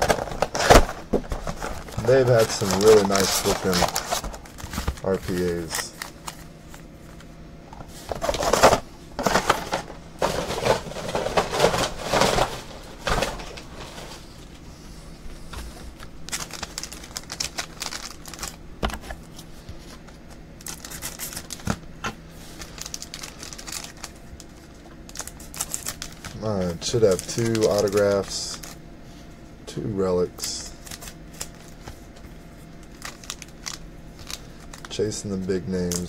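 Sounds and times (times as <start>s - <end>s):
foil wrappers crinkling and tearing: 0.0s - 7.2s, 8.1s - 14.4s, 15.9s - 21.8s, 22.4s - 28.8s, 30.3s - 36.0s.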